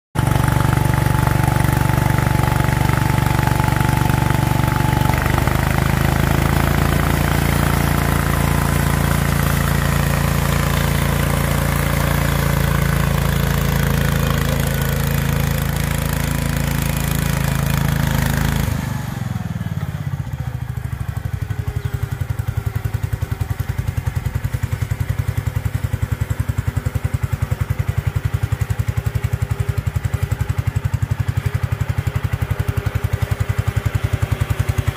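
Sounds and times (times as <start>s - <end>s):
garden tractor engine running: 0.2s - 34.9s.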